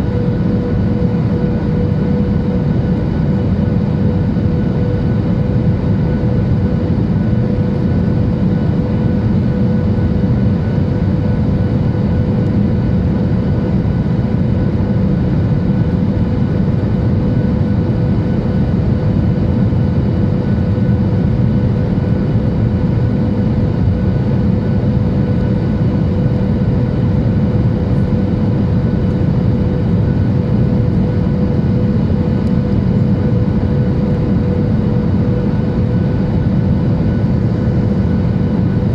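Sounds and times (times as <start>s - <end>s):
jet engine rumble and airflow: 0.0s - 38.9s
steady cabin whine: 0.0s - 38.9s.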